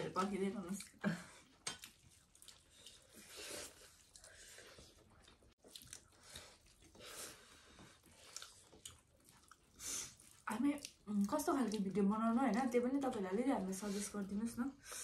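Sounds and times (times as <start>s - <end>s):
chewing and wet mouth sounds: 0.0s - 15.0s.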